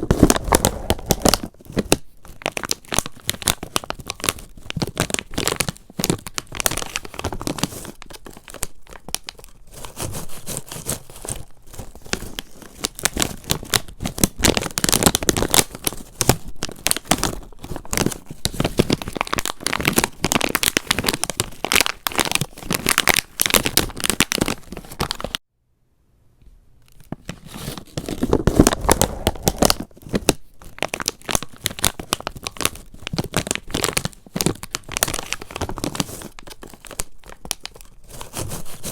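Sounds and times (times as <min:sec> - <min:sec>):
crinkling and crackling when crumpled: 0:00.0 - 0:25.4, 0:26.8 - 0:38.9.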